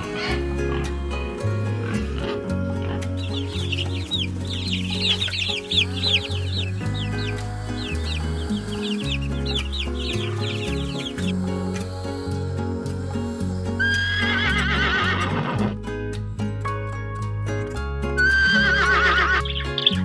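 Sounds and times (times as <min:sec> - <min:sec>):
chickens calling: 0:00.0 - 0:15.6, 0:18.2 - 0:20.0
background music with bass line: 0:00.0 - 0:20.0.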